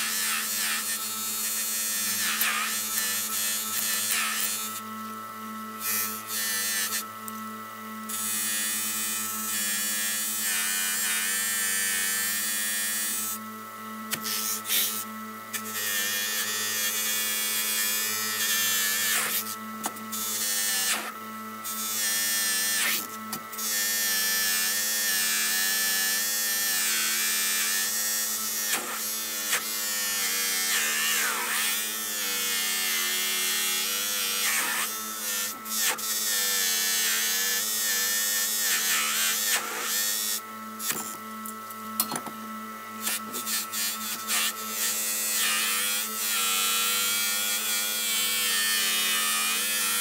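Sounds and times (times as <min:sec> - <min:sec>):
bench grinder motor hum: 0:00.0 - 0:50.0.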